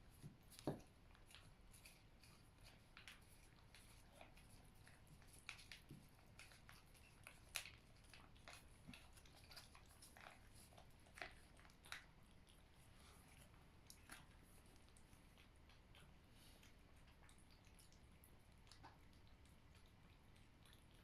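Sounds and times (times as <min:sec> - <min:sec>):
cat licking and chewing: 0:00.0 - 0:21.0.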